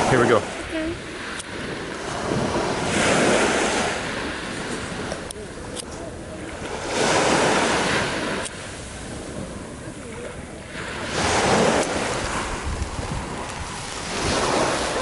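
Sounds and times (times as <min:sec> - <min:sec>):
sea waves washing onto beach: 0:00.0 - 0:15.0
wind on microphone: 0:00.0 - 0:15.0.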